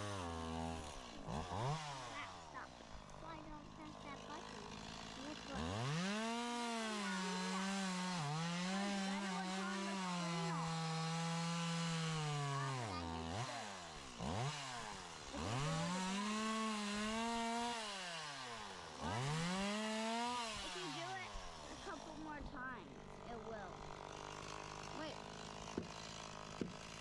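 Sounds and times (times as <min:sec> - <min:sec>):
chainsaw revving: 0:00.0 - 0:27.0.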